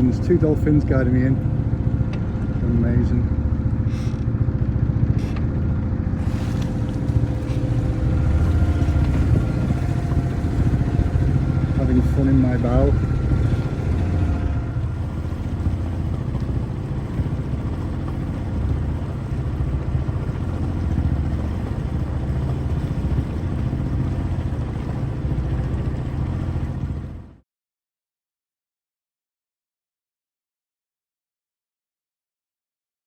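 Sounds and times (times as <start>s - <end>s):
boat engine pulsing rumble: 0.0s - 27.4s.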